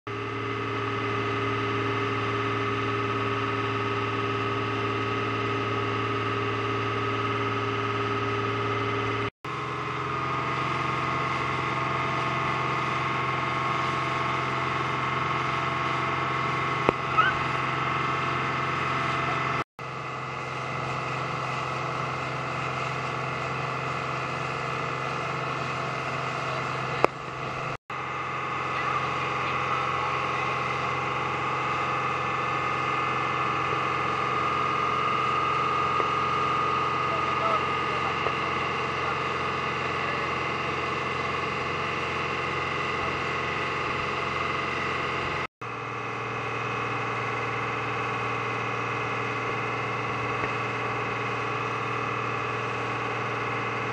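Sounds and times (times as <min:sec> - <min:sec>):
motorboat engine drone: 0:00.1 - 0:53.9.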